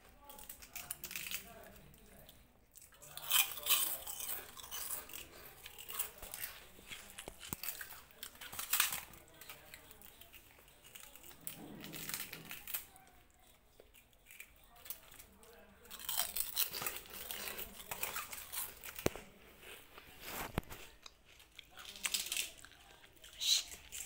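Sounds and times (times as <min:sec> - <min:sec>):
kittens crunching snack: 0:00.0 - 0:24.0.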